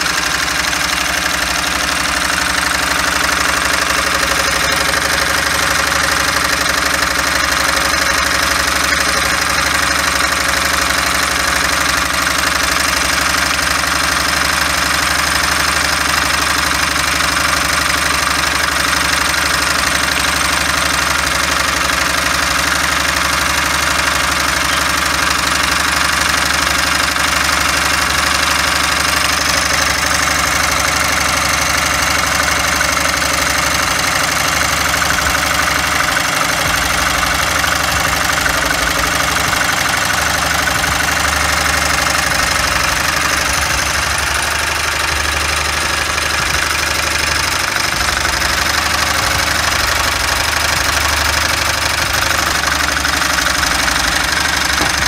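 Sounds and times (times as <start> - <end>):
engine running with mechanical beat: 0.0 - 55.0.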